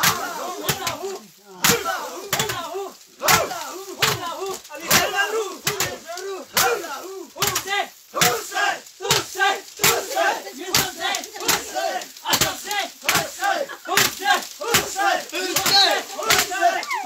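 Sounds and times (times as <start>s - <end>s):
men shouting: 0.0s - 17.0s
sticks thwacking maize cobs: 0.0s - 17.0s.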